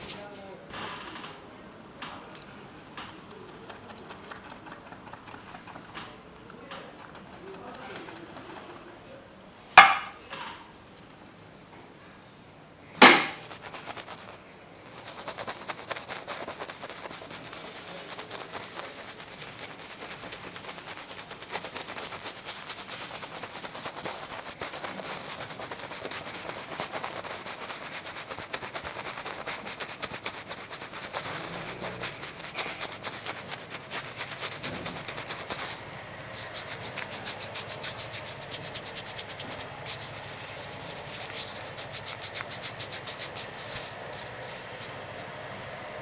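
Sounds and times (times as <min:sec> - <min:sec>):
shaving brush lathering: 0:03.3 - 0:08.8, 0:13.0 - 0:45.2.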